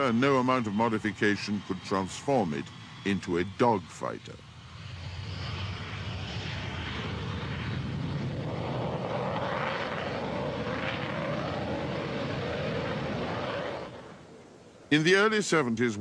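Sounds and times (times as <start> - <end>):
jet engine rushing: 0.0 - 15.7.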